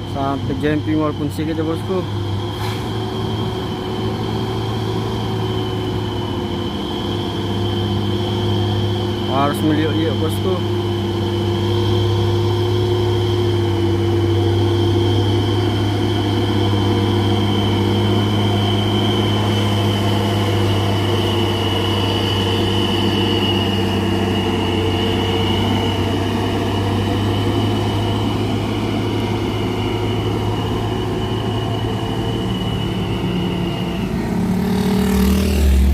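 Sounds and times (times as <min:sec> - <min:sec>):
high steady whine: 0:00.0 - 0:35.9
truck diesel engine climbing: 0:00.0 - 0:35.9.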